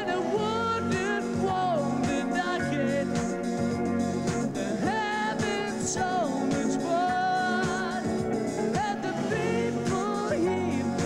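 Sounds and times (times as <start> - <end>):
man singing long notes: 0.0 - 3.3, 4.6 - 8.2, 8.8 - 11.0
drums: 0.0 - 11.0
live pop band playing: 0.0 - 11.0.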